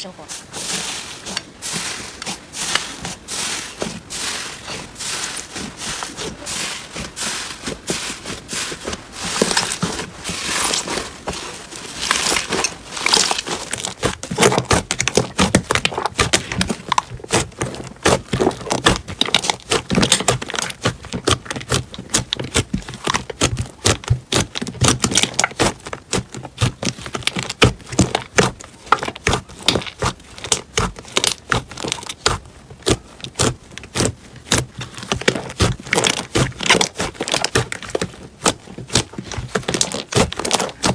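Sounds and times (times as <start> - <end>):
slime squished by hand: 1.2 - 40.9.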